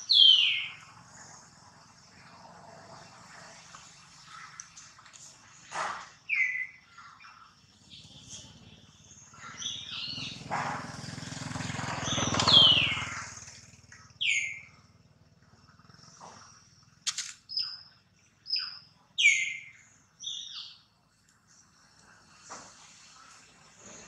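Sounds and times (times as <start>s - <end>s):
birds chirping: 0.0s - 10.6s, 11.9s - 15.0s, 15.6s - 22.5s.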